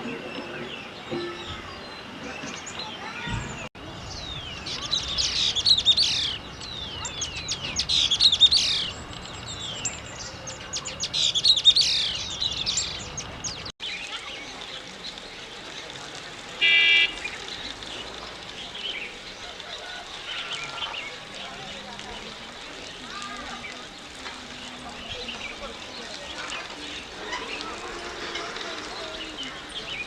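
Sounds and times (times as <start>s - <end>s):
songbirds twittering: 0.0s - 30.0s.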